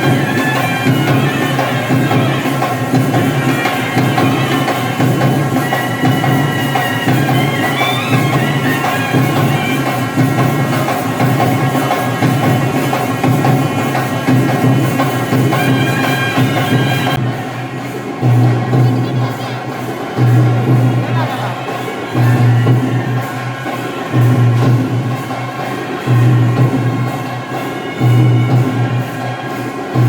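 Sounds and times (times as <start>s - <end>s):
drums: 0.0s - 30.0s
reedy wind instrument melody: 0.0s - 30.0s.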